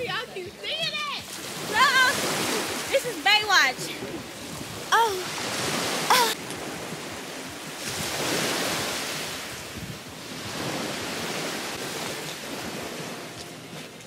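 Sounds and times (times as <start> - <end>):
surf washing onto beach: 1.1 - 14.0
wind on microphone: 1.5 - 14.0.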